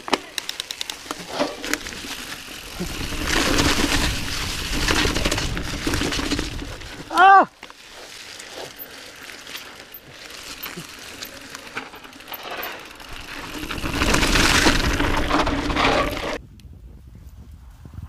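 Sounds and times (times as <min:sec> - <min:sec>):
bike rattles and clicks: 0:00.0 - 0:16.4
bike tyres on dirt and leaves: 0:00.0 - 0:16.4.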